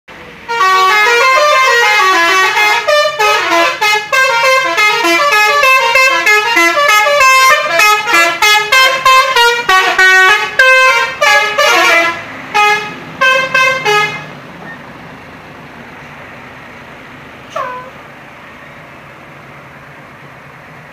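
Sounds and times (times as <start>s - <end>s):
multi-tone bus horns melody: 0.2s - 14.9s, 17.4s - 20.2s.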